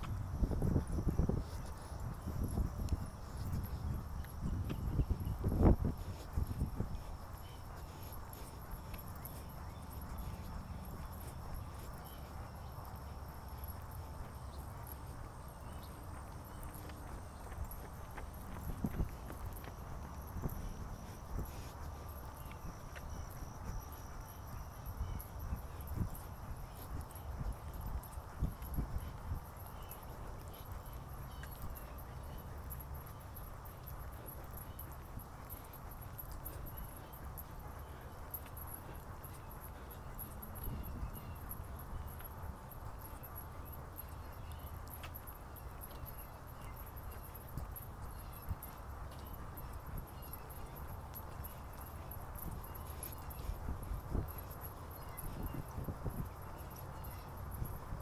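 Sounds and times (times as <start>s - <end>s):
faint high insect chirping: 0.0s - 58.0s
footsteps on asphalt: 0.0s - 58.0s.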